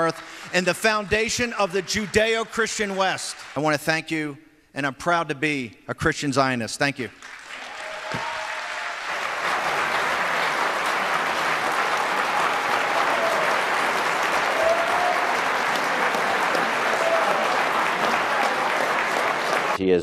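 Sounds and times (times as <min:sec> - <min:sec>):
audience applauding: 0:00.0 - 0:03.8, 0:07.2 - 0:19.8.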